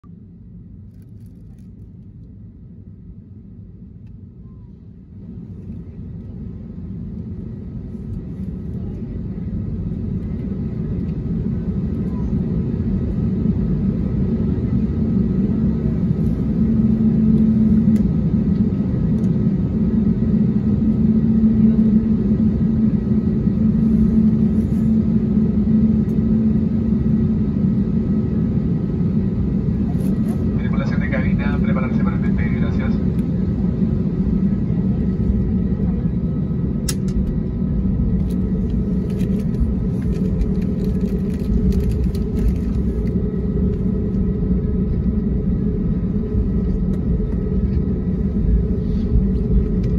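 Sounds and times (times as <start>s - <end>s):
airliner engines spooling up: 0.2s - 49.9s.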